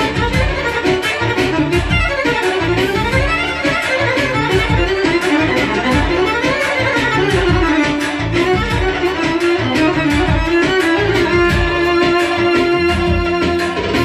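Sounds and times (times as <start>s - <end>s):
keyboard drum beat and bass: 0.0s - 14.0s
violin playing lively melody: 0.0s - 14.0s.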